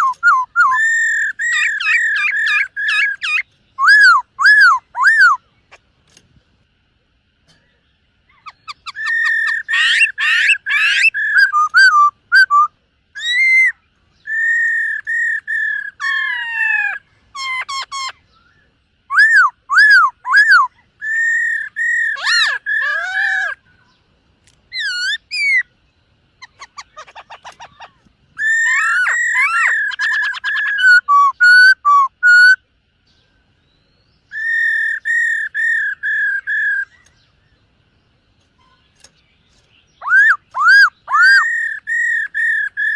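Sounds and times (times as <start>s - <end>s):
bird singing whistled phrases: 0.0s - 5.4s, 8.3s - 23.6s, 24.7s - 25.7s, 26.5s - 32.6s, 33.6s - 37.2s, 40.0s - 42.9s.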